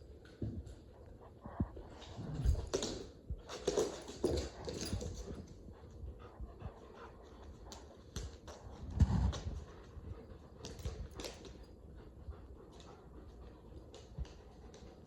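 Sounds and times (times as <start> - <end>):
dogs scuffling and breathing: 0.0 - 15.0.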